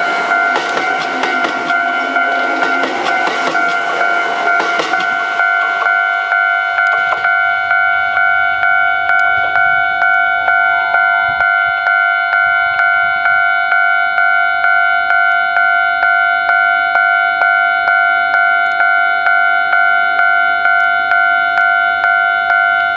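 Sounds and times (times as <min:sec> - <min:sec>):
level-crossing warning bell ringing: 0:00.0 - 0:22.9.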